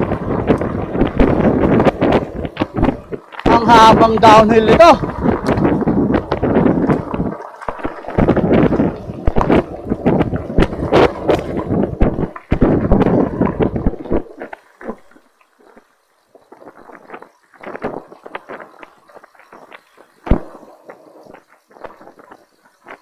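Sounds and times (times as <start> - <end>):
bicycle rattling over rough ground: 0.0 - 23.0
wind buffeting microphone: 0.0 - 23.0.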